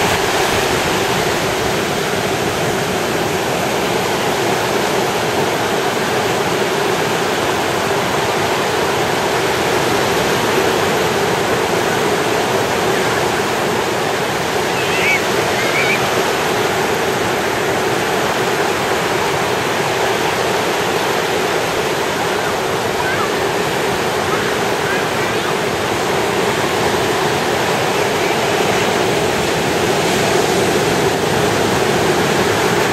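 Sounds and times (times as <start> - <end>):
ocean surf breaking: 0.0 - 32.9.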